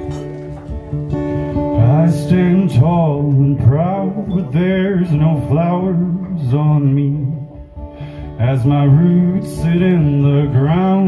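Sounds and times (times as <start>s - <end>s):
acoustic guitar playing: 0.0s - 11.0s
man singing: 1.4s - 11.0s.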